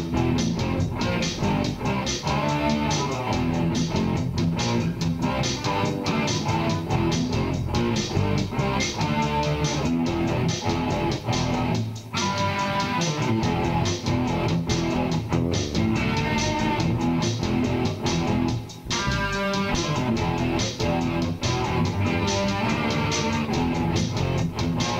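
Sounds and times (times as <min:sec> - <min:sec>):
bass guitar line: 0:00.0 - 0:24.9
strummed guitar: 0:00.0 - 0:24.9.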